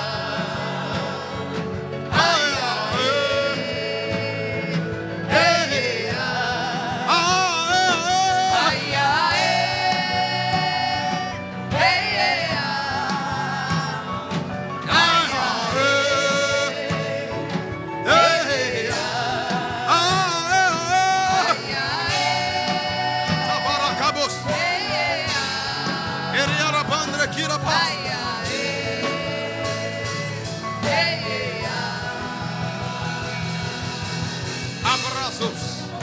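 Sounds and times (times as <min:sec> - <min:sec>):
instrumental backing: 0:00.0 - 0:36.0.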